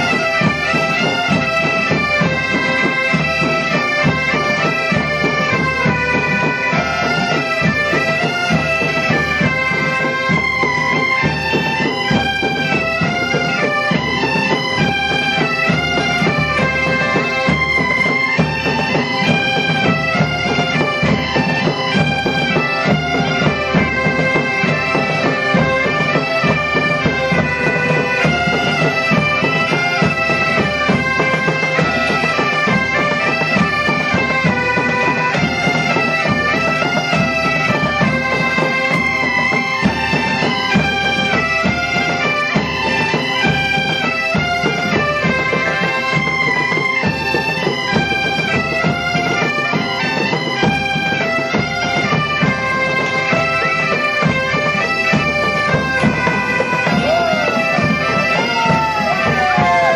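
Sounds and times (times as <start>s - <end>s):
bagpipe ensemble playing: 0.0s - 59.9s.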